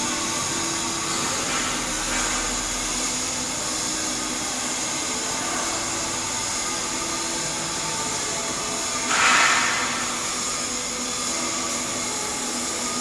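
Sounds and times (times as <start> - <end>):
welding arc hissing: 0.0 - 13.0.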